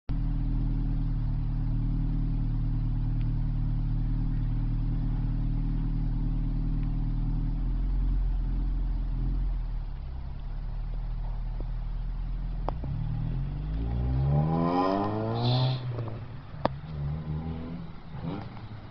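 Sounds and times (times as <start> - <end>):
car engine idling: 0.1 - 18.9.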